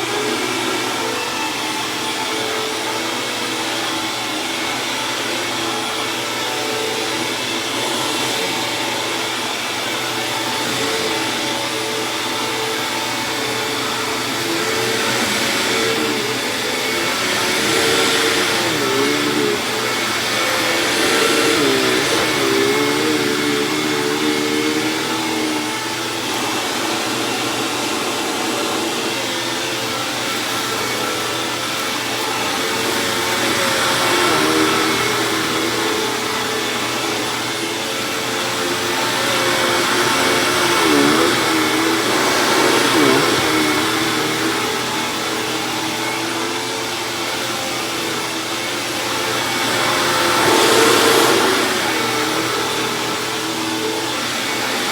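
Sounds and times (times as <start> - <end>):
upright vacuum cleaner running: 0.0 - 54.9.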